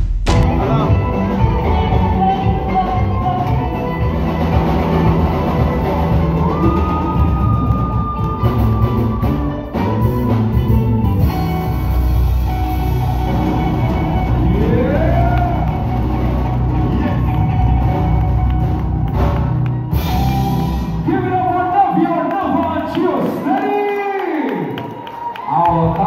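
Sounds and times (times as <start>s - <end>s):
live band playing loud song: 0.0s - 24.0s.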